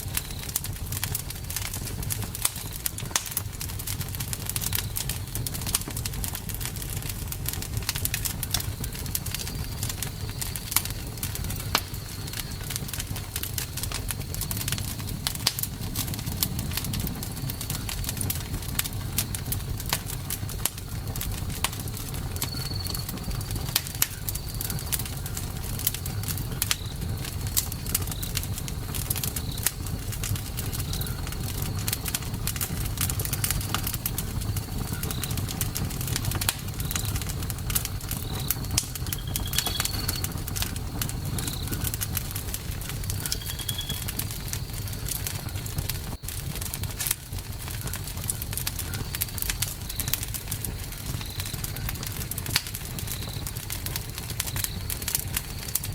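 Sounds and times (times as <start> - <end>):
campfire crackling and popping: 0.0 - 55.9
low rumble of flames: 0.0 - 55.9.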